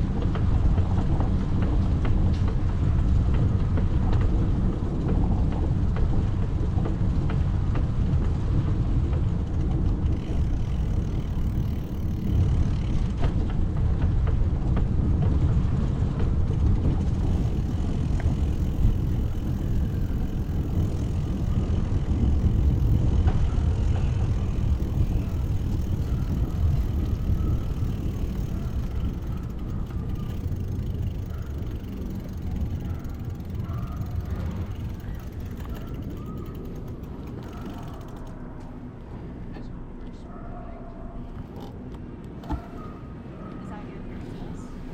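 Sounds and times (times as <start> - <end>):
wind rushing over microphone: 0.0 - 36.4
bicycle tyre and street noise: 0.0 - 44.9.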